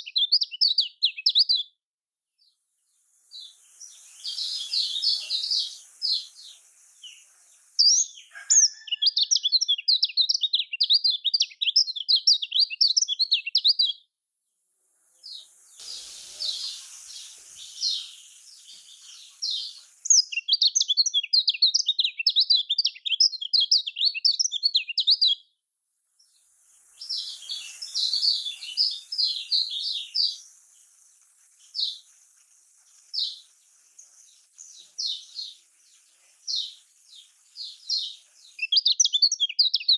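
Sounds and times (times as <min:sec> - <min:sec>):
bird chattering song: 0:00.0 - 0:01.7, 0:03.3 - 0:14.0, 0:15.3 - 0:25.4, 0:26.8 - 0:39.9.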